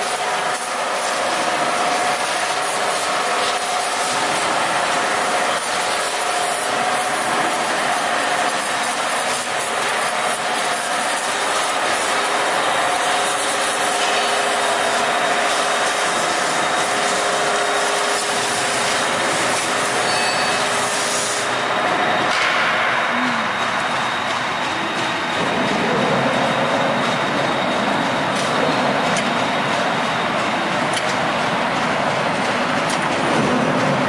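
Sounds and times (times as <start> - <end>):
machinery hiss: 0.0 - 34.0.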